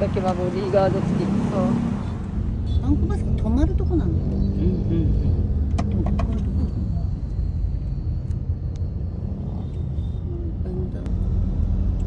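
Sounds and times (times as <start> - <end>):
engine and road noise inside vehicle: 0.0 - 12.0.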